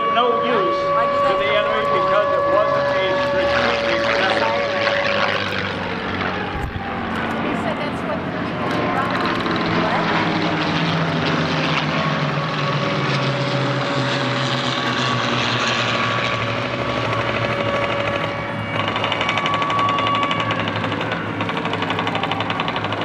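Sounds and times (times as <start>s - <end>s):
propeller plane engine droning overhead: 0.0s - 23.0s
pulsing aircraft exhaust: 0.0s - 23.0s.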